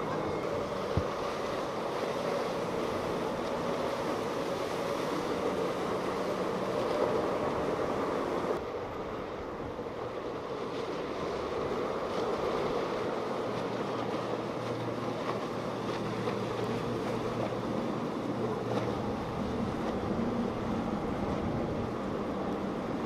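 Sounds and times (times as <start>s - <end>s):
boat engine noise: 0.0s - 23.0s
low steady engine hum: 0.0s - 23.0s.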